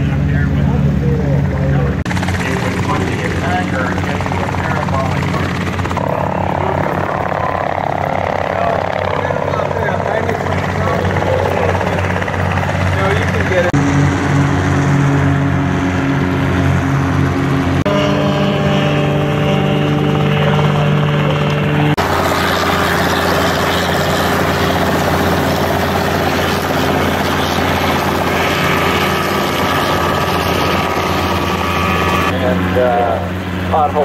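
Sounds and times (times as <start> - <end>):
helicopter engine and rotor: 0.0 - 34.0
small aircraft engines humming: 0.0 - 34.0.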